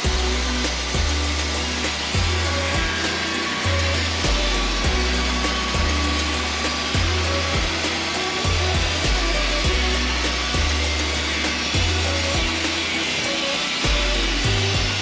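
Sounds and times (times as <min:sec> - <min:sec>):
background music with bass line: 0:00.0 - 0:15.0
band sawmill cutting a log: 0:00.0 - 0:15.0.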